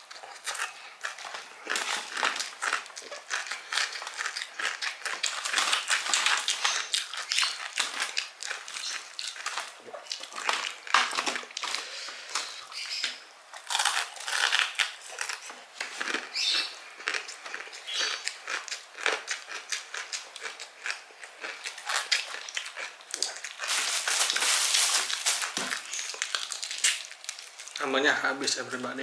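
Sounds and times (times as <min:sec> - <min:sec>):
crunching fried chicken: 0:00.0 - 0:29.0.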